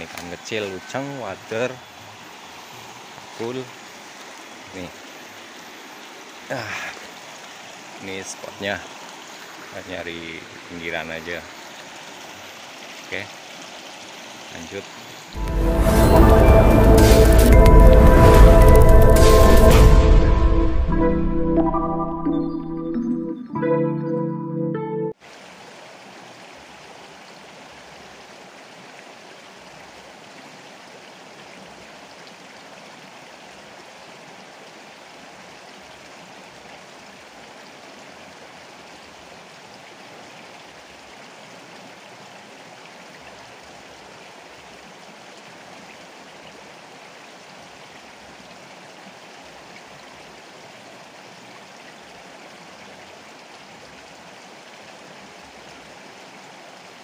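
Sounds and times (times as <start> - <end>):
river water rushing: 0.0 - 20.6, 25.2 - 57.0.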